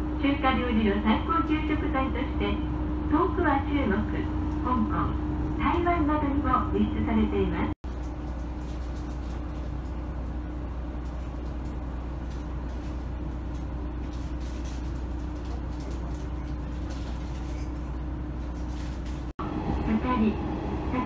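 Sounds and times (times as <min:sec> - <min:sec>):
constant hum: 0:00.0 - 0:21.0
train engine drone: 0:00.0 - 0:21.0.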